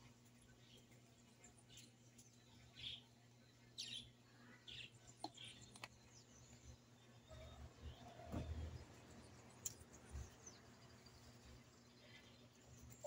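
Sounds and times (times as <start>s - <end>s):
low steady hum: 0.0s - 13.0s
bird chirps: 0.6s - 13.0s.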